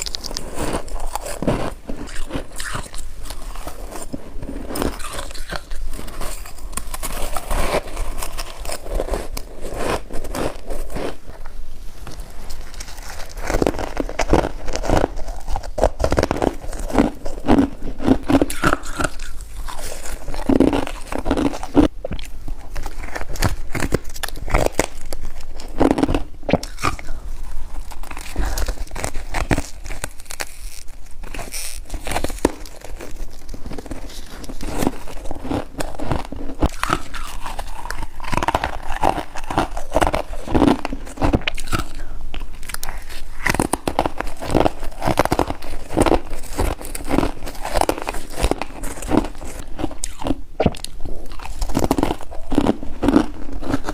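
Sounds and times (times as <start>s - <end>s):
crunching ice being chewed: 0.0s - 53.9s.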